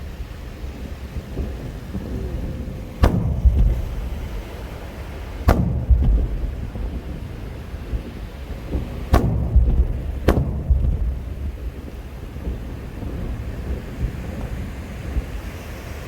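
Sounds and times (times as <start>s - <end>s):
fireworks bangs: 0.0s - 15.6s
low rumbling echo: 1.2s - 14.2s.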